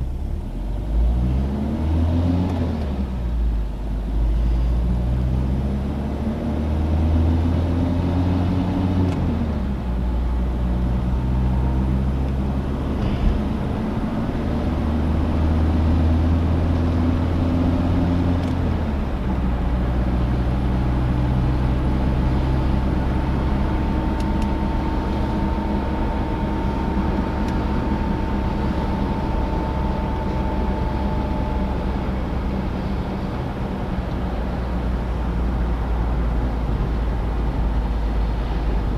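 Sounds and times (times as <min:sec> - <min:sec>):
car engine accelerating through gears: 0:00.0 - 0:38.9
road noise: 0:00.0 - 0:38.9.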